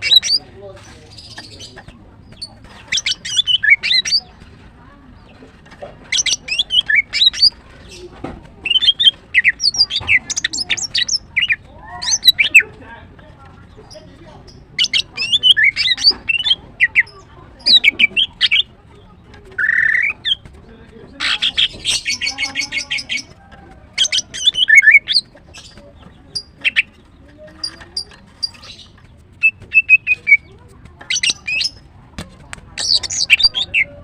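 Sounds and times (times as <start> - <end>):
bird chirping and squawking: 0.0 - 0.5, 1.1 - 4.5, 6.0 - 12.8, 13.8 - 18.8, 19.5 - 20.6, 21.2 - 31.9, 32.6 - 34.0
bird trill: 0.0 - 0.5, 1.1 - 4.4, 6.1 - 8.0, 8.6 - 12.8, 13.8 - 18.8, 19.5 - 20.5, 21.2 - 31.9, 32.8 - 34.0.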